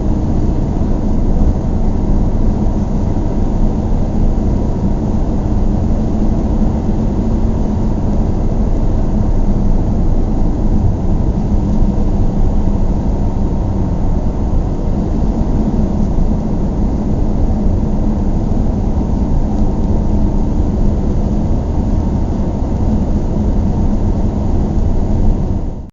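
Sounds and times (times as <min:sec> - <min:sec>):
car cabin road rumble: 0:00.0 - 0:25.6
faint hum: 0:00.0 - 0:25.9.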